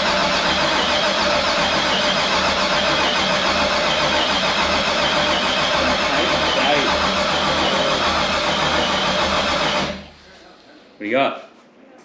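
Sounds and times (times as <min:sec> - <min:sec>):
engine cranking on starter: 0:00.0 - 0:10.2.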